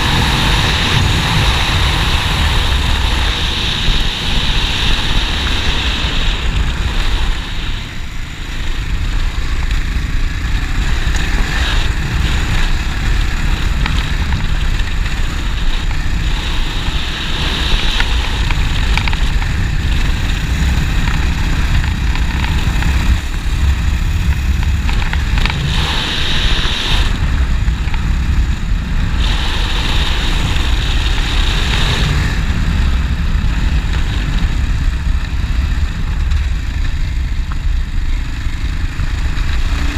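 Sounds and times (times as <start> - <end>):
motorcycle exhaust rumble: 0.0 - 39.9.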